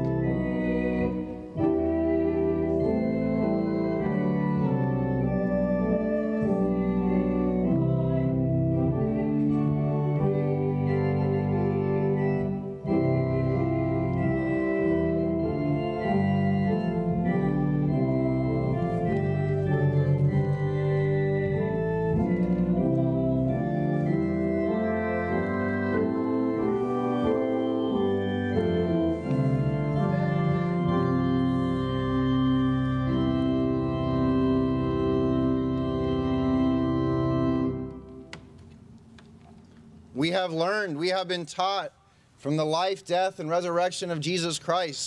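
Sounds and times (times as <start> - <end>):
organ playing a hymn: 0.0 - 45.0.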